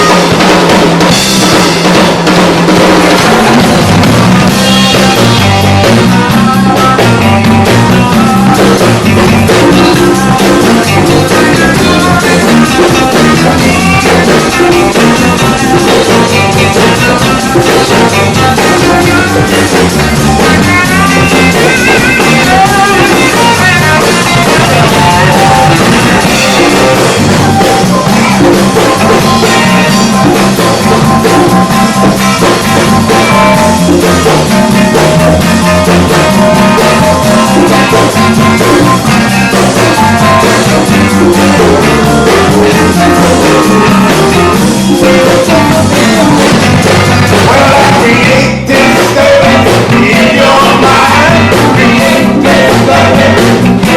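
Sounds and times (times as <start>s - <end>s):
instrumental rock band playing: 0.0s - 53.9s.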